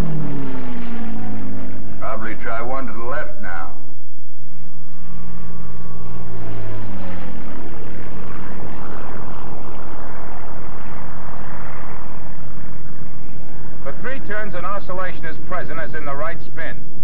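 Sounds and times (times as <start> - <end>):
aircraft engine falling in pitch: 0.0 - 16.3.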